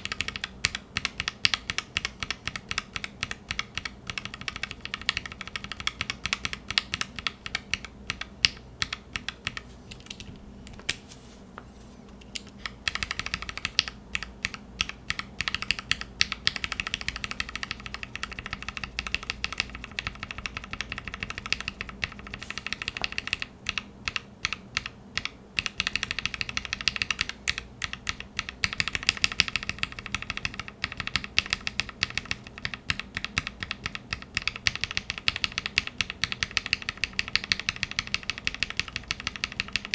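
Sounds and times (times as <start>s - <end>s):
mechanical keyboard typing: 0.0s - 11.0s, 12.4s - 39.9s.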